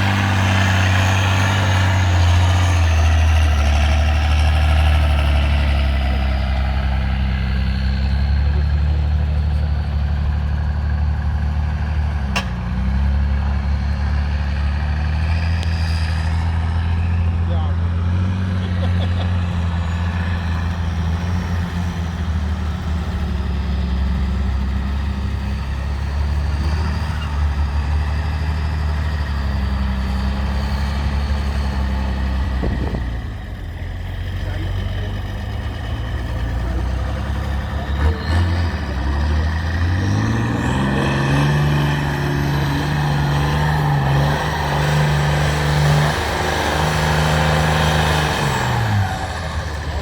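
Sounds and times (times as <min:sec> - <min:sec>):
diesel truck engine revving: 0:00.0 - 0:50.0.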